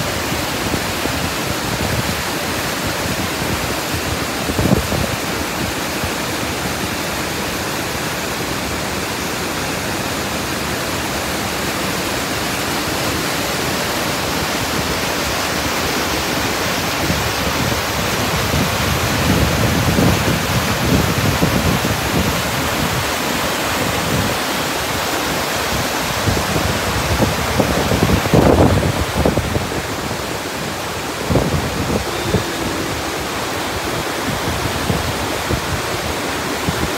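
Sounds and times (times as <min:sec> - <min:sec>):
waterfall rushing over rocks: 0:00.0 - 0:36.9.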